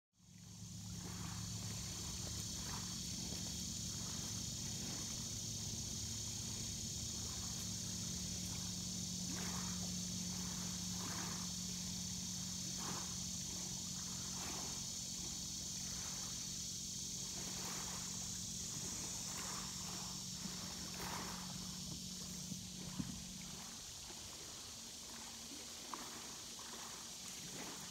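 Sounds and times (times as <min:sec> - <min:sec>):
low steady hum: 0:00.2 - 0:27.6
insects buzzing: 0:00.2 - 0:27.9.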